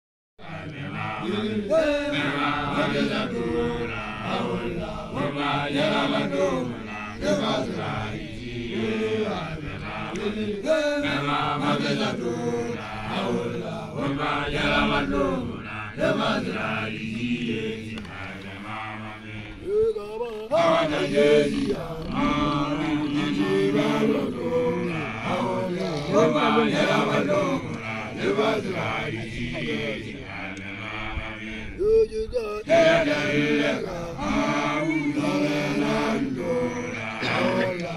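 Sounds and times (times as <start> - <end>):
young men chanting: 0.4 - 31.9, 32.5 - 37.9.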